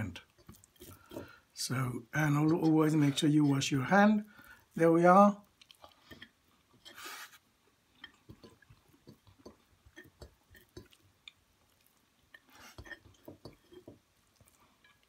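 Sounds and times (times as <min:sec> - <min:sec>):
soft chewing: 0:00.2 - 0:04.8, 0:05.4 - 0:15.0.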